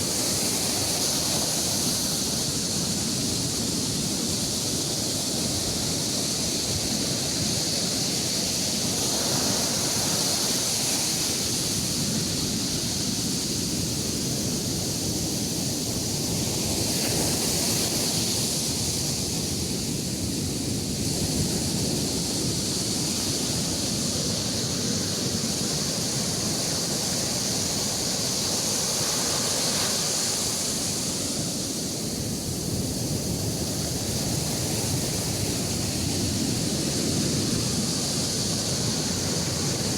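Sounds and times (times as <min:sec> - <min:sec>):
sea surf breaking on beach: 0:00.0 - 0:39.9.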